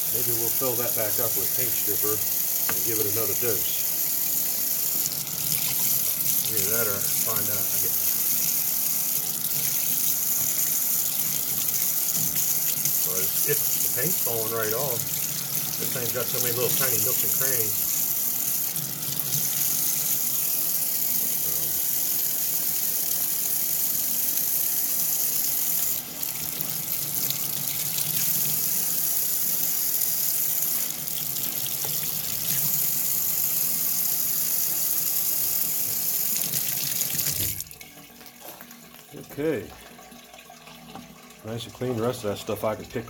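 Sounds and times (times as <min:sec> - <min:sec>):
tap water running: 0:00.0 - 0:43.0.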